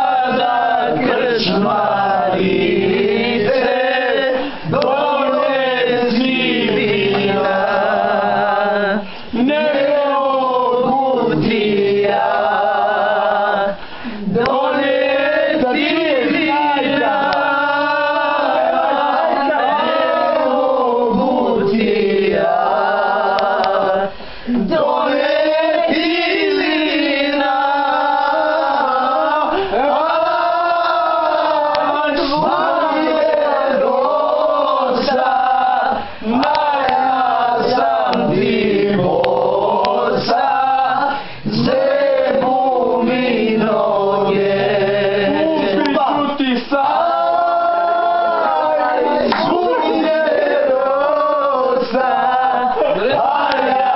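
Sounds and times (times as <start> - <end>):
group of men singing: 0.0 - 53.9.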